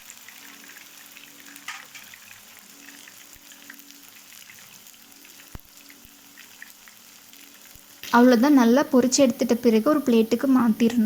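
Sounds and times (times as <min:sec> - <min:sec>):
oil crackles and pops: 0:00.0 - 0:11.0
potatoes sizzling in hot oil: 0:00.0 - 0:11.0.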